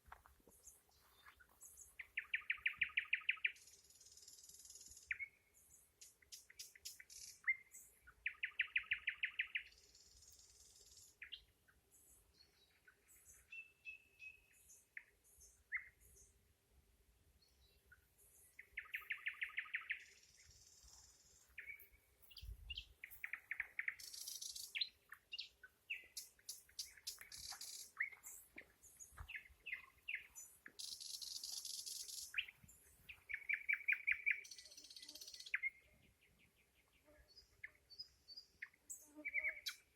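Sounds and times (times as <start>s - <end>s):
nightingale singing: 0.5s - 16.3s, 17.5s - 36.7s, 37.3s - 39.9s.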